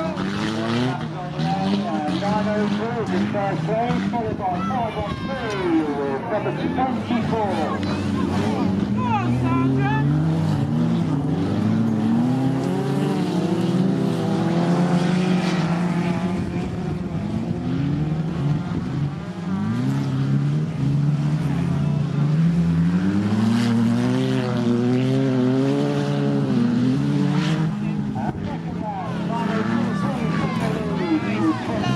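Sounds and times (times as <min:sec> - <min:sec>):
racing car engines: 0:00.0 - 0:31.9.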